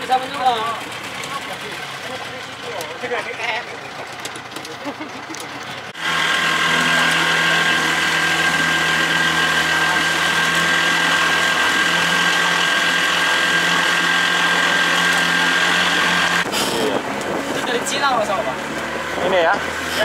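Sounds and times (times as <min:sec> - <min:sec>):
boat engine droning with whine: 0:00.0 - 0:20.0.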